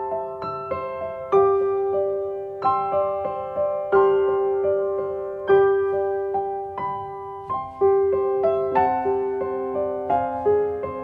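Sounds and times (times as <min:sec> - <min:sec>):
slow gentle piano melody: 0:00.0 - 0:11.0.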